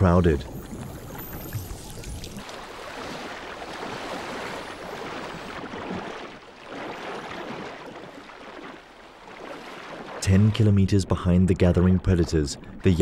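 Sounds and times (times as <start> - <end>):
sea water splashing: 0.0 - 13.0.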